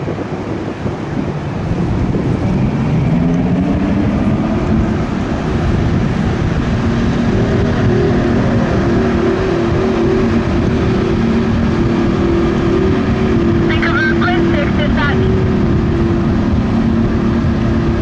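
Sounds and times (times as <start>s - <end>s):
boat engines revving: 0.0s - 18.0s
wake rushing: 0.0s - 18.0s.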